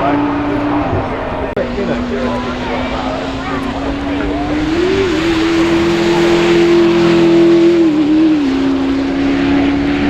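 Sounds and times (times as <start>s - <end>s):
car engine at high revs: 0.0s - 10.0s.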